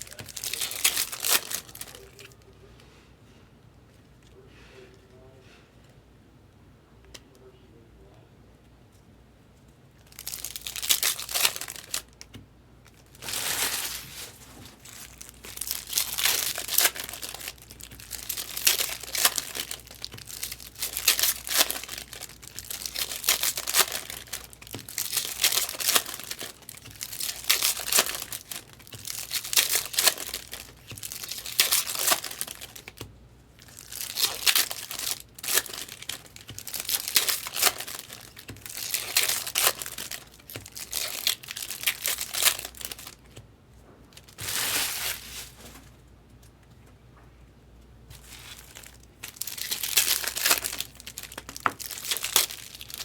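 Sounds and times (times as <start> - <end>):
plastic wrappers crinkling: 0.0 - 2.6, 10.0 - 43.4, 44.1 - 46.6, 48.1 - 53.0.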